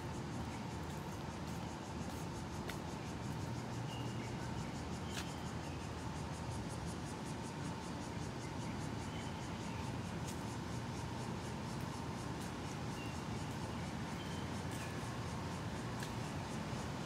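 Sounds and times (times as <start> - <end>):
cicadas chirping: 0.0 - 17.0.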